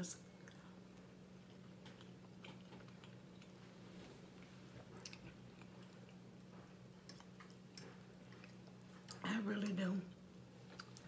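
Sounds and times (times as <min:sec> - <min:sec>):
low steady hum: 0:00.0 - 0:11.0
close-up chewing: 0:00.4 - 0:11.0.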